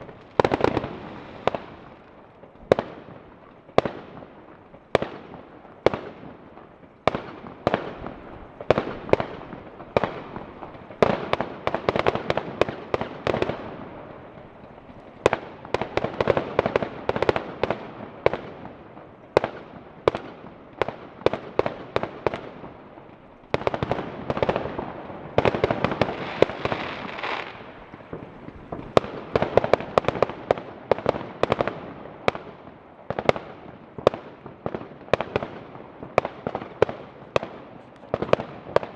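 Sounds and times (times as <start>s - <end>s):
fireworks bangs: 0.0s - 38.9s
fireworks crackling: 0.0s - 38.9s.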